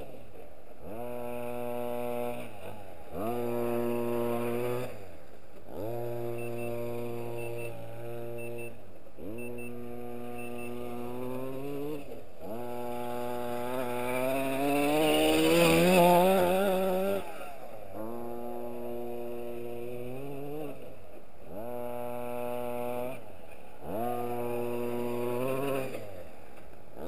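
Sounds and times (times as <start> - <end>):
rc truck engine revving: 0.0 - 27.0.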